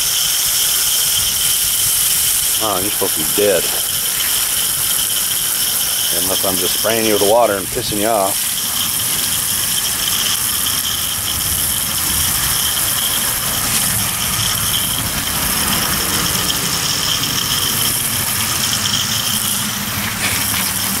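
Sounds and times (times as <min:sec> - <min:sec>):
hose sprayer hissing and whistling: 0:00.0 - 0:21.0.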